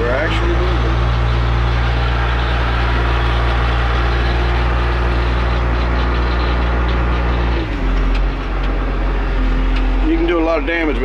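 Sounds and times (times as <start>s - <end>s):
wheel loader diesel engine running: 0.0s - 11.0s.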